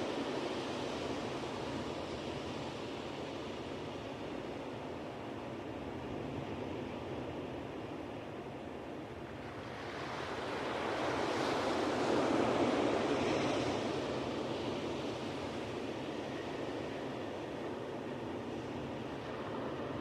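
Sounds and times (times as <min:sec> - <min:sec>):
ocean waves washing on beach: 0:00.0 - 0:20.0.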